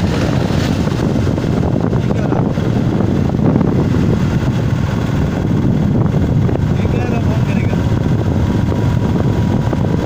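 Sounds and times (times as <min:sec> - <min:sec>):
vehicle driving rumble: 0:00.0 - 0:10.0
wind buffeting microphone: 0:00.0 - 0:10.0.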